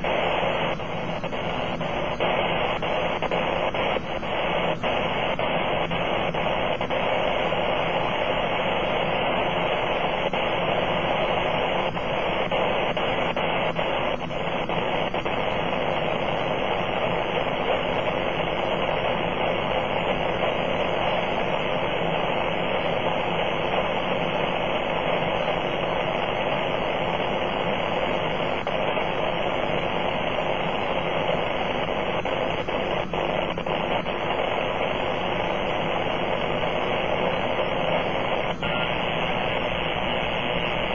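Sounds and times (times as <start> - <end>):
radio interference noise: 0.0 - 40.9.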